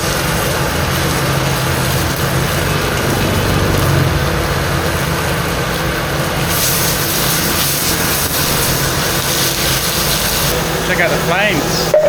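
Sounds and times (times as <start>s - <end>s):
gas burner rumble: 0.0s - 12.0s
sizzling over open flame: 0.0s - 12.0s.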